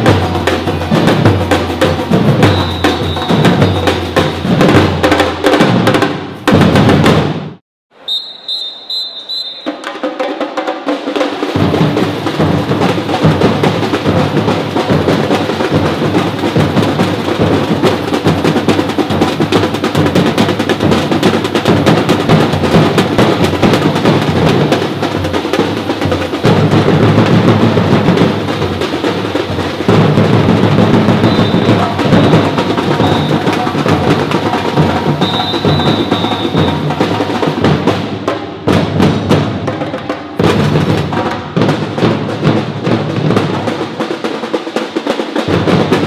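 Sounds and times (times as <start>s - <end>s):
percussion ensemble drumming: 0.0s - 46.0s.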